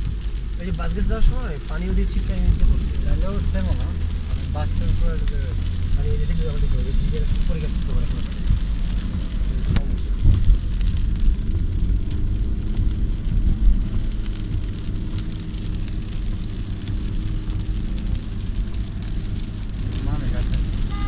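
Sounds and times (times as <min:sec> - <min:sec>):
car engine and tyres on wet road: 0:00.0 - 0:21.0
rain spattering on car: 0:00.0 - 0:21.0.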